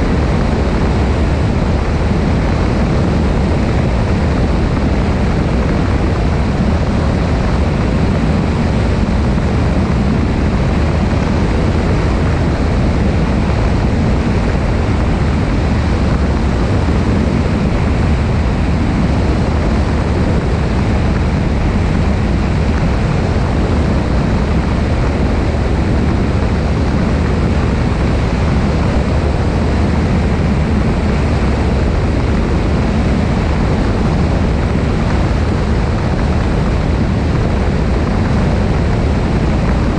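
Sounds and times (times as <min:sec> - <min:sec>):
light aircraft engine drone: 0:00.0 - 0:39.9
wind rushing over microphone: 0:00.0 - 0:39.9.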